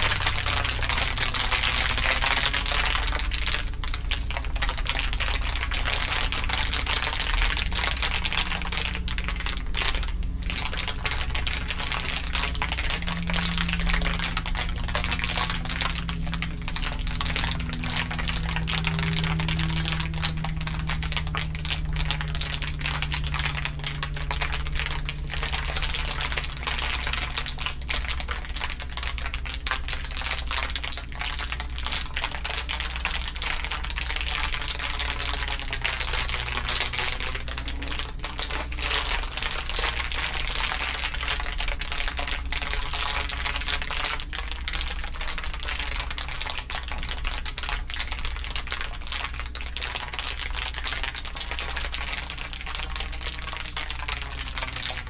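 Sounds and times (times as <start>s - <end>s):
filtered dense crackling: 0.0s - 55.0s
steady low hum: 0.0s - 55.0s.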